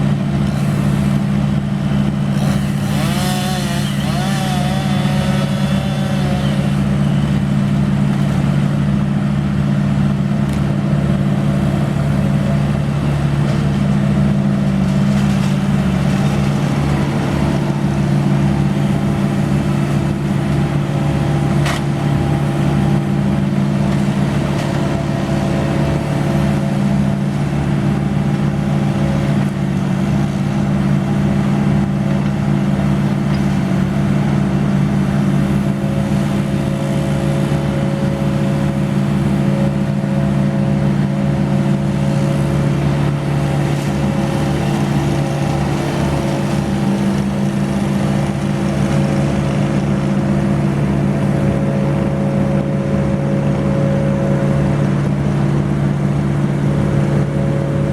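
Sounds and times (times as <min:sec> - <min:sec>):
heavy equipment engine running: 0:00.0 - 0:57.9.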